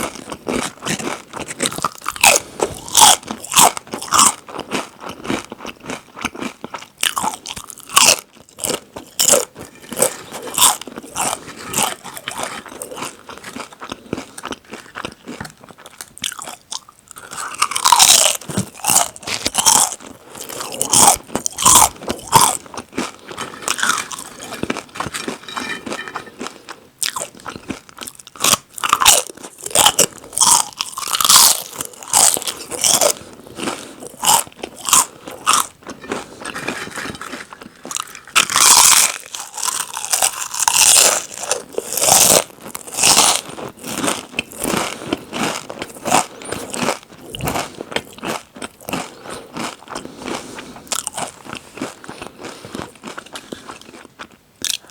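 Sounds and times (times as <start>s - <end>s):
crunching of chips being chewed: 0.0s - 54.9s.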